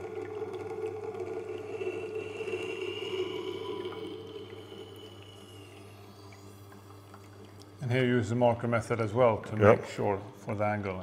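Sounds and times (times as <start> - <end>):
motor hum: 0.0 - 10.2.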